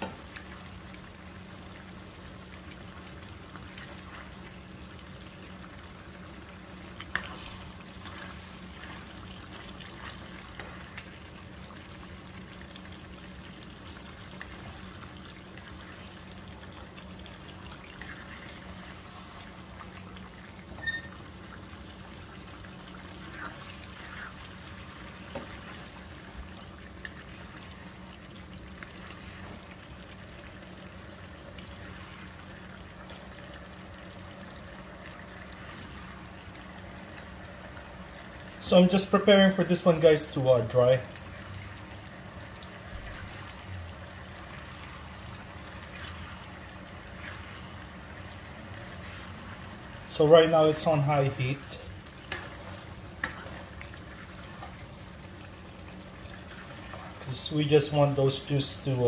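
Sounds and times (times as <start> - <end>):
sauce simmering and bubbling: 0.0 - 59.0.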